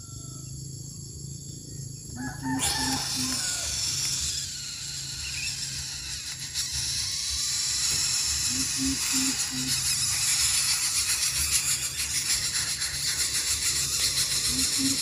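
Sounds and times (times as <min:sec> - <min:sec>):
nestlings hissing: 0:02.6 - 0:15.0.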